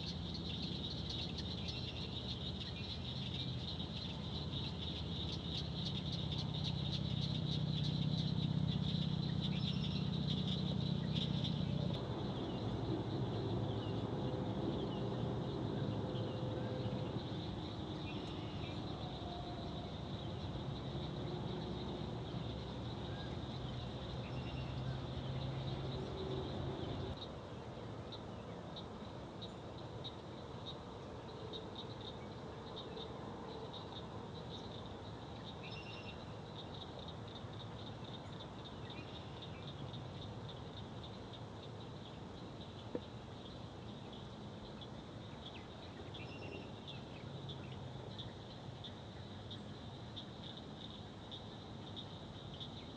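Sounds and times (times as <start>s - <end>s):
frogs and insects trilling: 0.0s - 52.9s.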